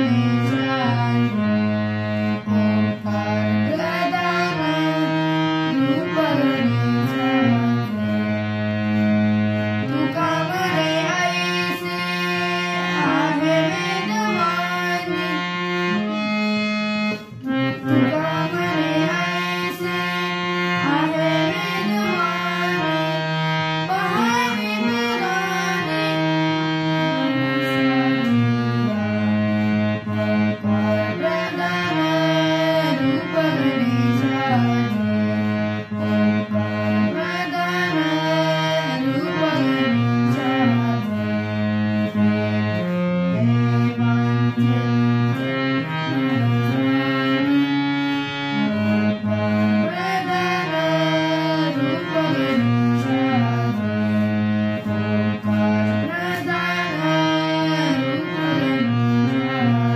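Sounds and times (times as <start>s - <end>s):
harmonium playing a melody: 0.0s - 59.9s.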